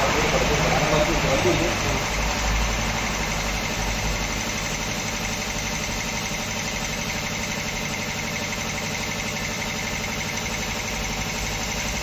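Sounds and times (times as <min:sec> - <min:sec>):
motor running: 0:00.0 - 0:12.0.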